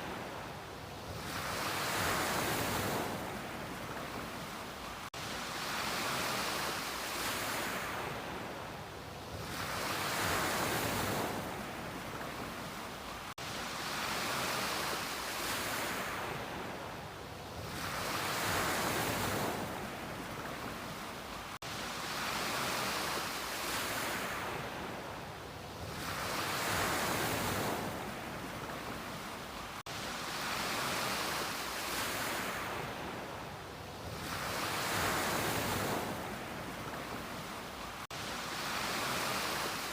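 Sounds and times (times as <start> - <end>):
steady surf hiss: 0.0 - 39.9
waves breaking on beach: 0.0 - 39.9.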